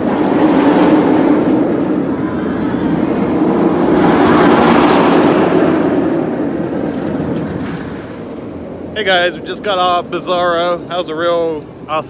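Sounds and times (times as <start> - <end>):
roller coaster train rumbling: 0.0 - 12.0.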